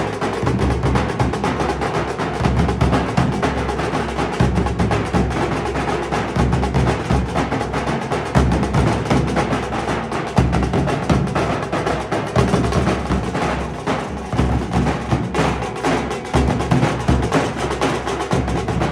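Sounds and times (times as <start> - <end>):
dhol drumming: 0.0 - 18.9.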